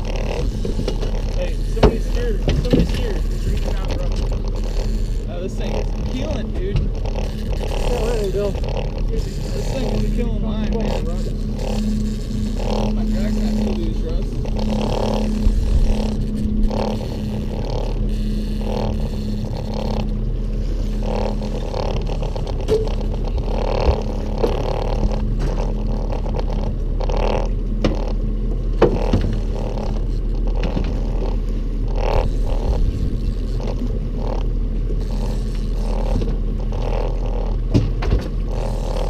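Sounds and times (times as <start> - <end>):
boat motor humming: 0.0 - 39.0.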